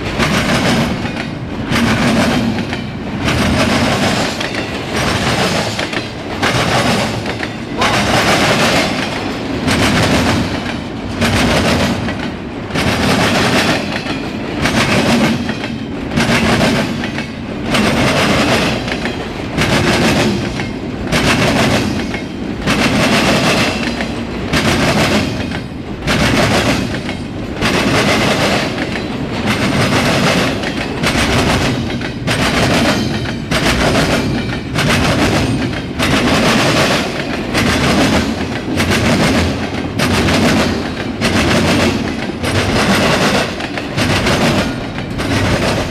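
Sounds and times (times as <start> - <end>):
freight train cars rolling past: 0.0 - 45.9
steel wheels clacking over rail joints: 0.0 - 45.9.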